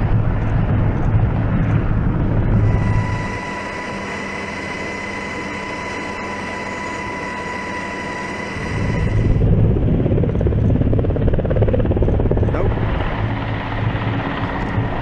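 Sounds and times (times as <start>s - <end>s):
helicopter rotor beat: 0.0s - 15.0s
helicopter turbine whine: 0.0s - 15.0s.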